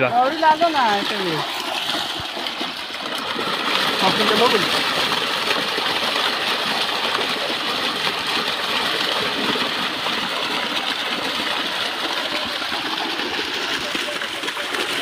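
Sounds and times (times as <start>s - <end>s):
fish splashing at water surface: 0.0s - 15.0s.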